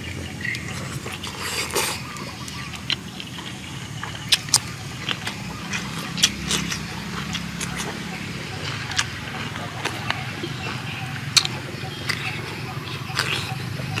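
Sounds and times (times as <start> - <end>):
man chewing crunchy food: 0.0 - 14.0
steady low hum: 0.0 - 14.0.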